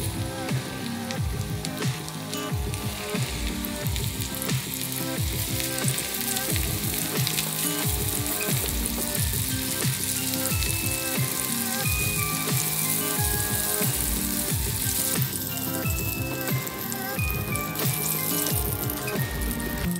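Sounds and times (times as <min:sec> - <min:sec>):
background music with bass line: 0:00.0 - 0:19.9
chicken deep-frying in oil: 0:00.0 - 0:19.9.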